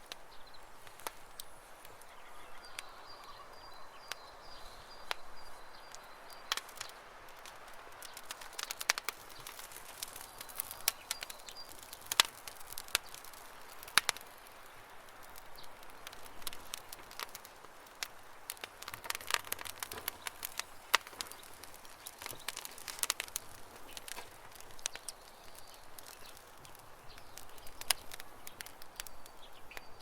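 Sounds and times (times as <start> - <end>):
campfire crackling and popping: 0.0 - 30.0
faint hiss: 0.0 - 30.0
small birds chirping: 0.0 - 30.0.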